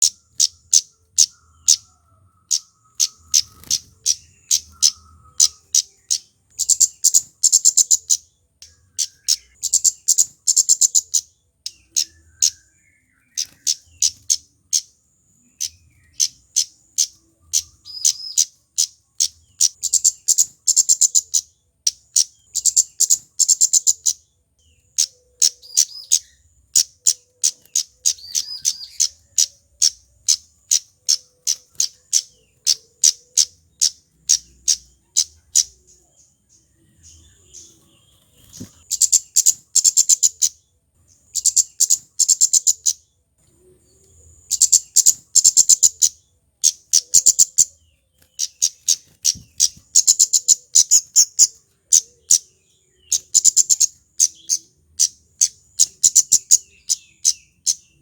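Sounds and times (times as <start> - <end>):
bird calling sharp high chips: 0.0 - 14.9, 15.6 - 24.2, 24.9 - 36.0, 37.0 - 40.6, 44.5 - 58.0.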